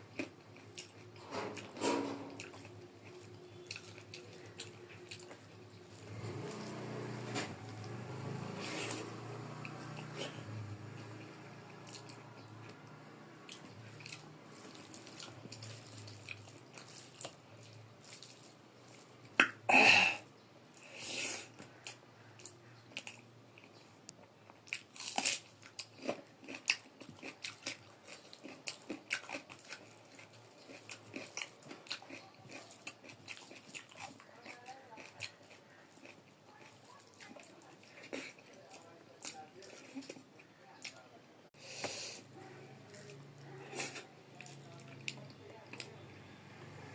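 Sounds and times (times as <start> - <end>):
person chewing food: 0.0 - 19.7, 20.7 - 41.0, 41.6 - 46.0.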